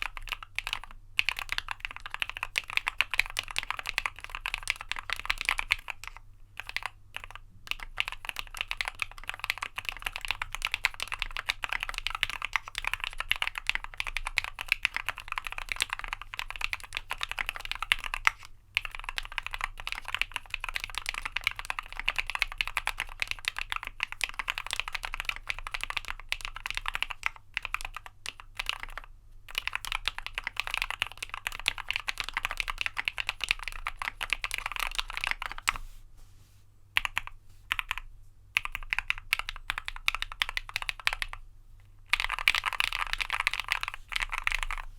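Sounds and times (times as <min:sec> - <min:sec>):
fast typing on mechanical keyboard: 0:00.0 - 0:35.8, 0:37.0 - 0:41.4, 0:42.1 - 0:44.9.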